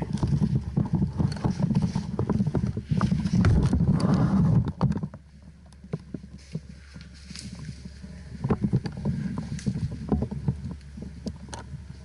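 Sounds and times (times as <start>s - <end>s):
camera handling rumble and knocks: 0.0s - 12.0s.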